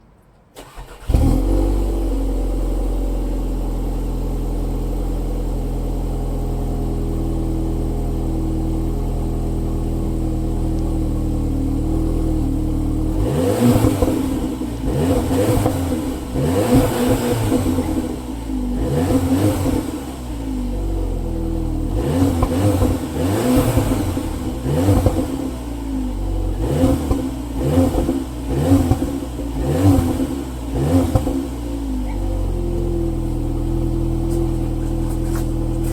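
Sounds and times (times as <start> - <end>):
car engine idling and revving: 0.6 - 35.9.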